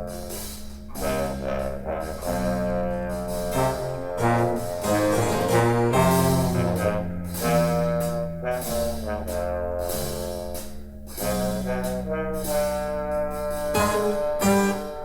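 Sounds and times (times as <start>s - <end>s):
brass section holding chords: 0.0s - 15.0s
walking bass line: 0.0s - 15.0s.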